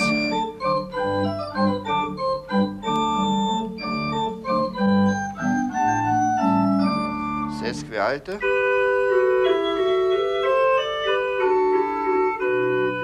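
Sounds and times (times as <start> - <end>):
pipe organ playing: 0.0 - 13.0.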